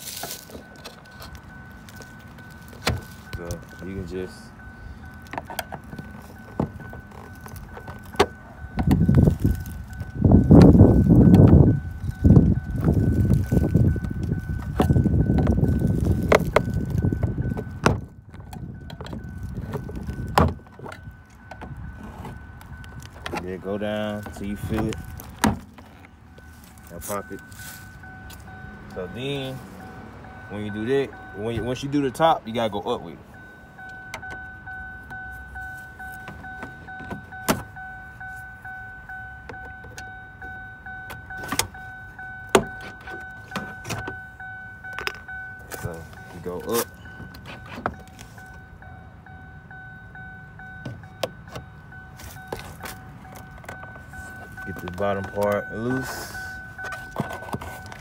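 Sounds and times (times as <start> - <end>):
car warning chime: 0.0 - 58.0.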